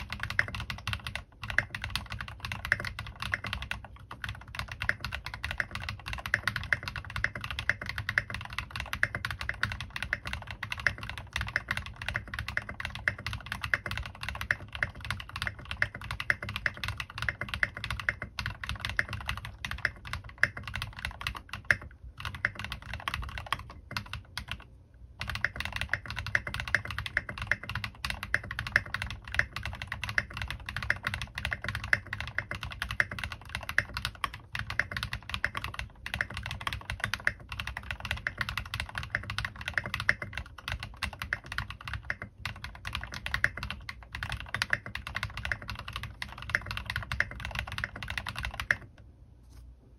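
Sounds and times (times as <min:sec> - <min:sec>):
fast typing on mechanical keyboard: 0:00.0 - 0:49.0.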